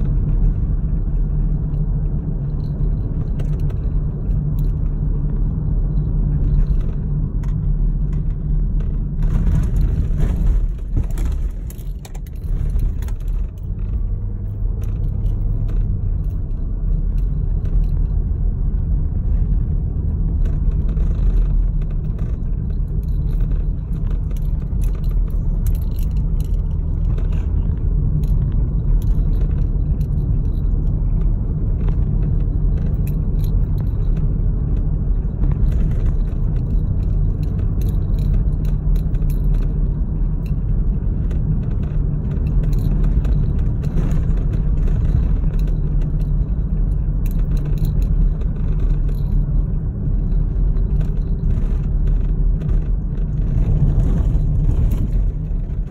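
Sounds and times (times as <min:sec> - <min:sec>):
tyres rumbling on gravel: 0:00.0 - 0:55.9.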